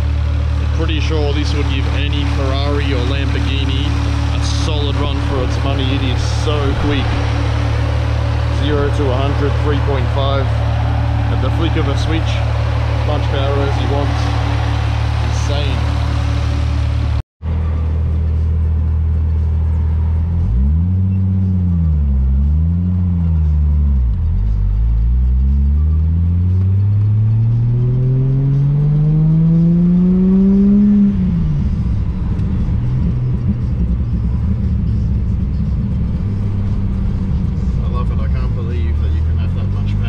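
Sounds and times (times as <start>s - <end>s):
car engine from inside cabin: 0.0s - 40.0s.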